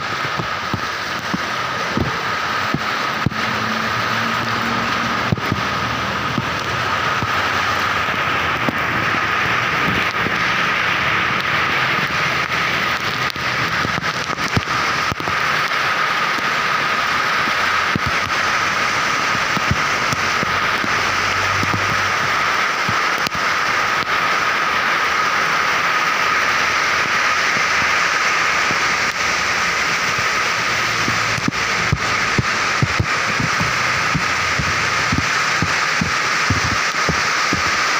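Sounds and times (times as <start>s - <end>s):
heavy rain hissing: 0.0s - 37.9s
raindrops clicking close by: 0.0s - 37.9s.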